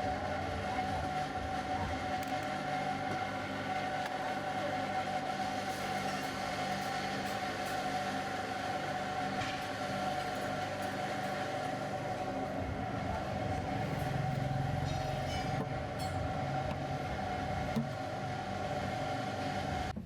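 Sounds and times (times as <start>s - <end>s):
motor hum and whine: 0.0s - 20.0s.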